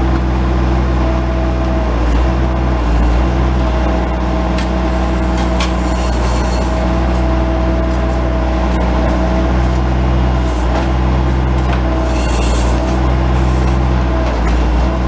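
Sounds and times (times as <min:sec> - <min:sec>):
diesel engine running: 0:00.0 - 0:15.0
hydraulic whine: 0:01.6 - 0:15.0.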